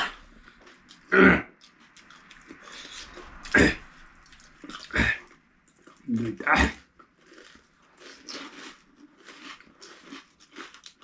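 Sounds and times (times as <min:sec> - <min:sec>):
loud eating mouth noises: 0:00.0 - 0:11.0.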